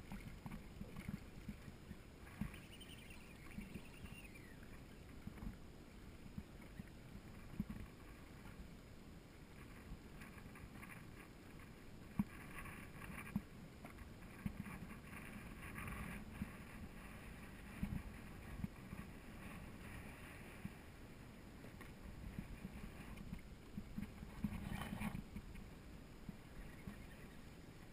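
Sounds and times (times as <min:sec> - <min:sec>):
waves lapping against hull: 0:00.0 - 0:27.9.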